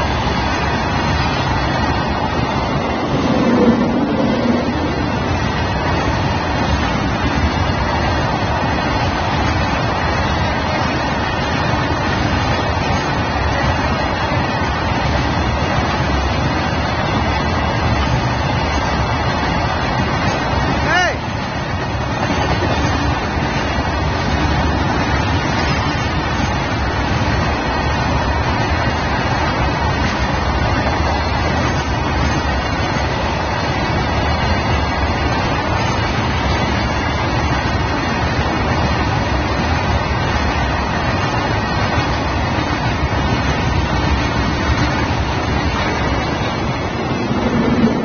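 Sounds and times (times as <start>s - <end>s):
steel wheels rumbling on rails: 0.0s - 48.0s.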